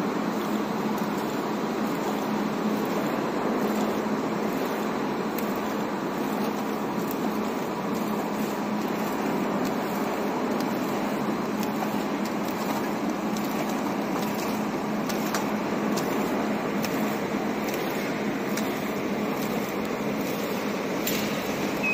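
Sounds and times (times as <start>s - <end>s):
machine mechanical hum: 0.0s - 21.9s.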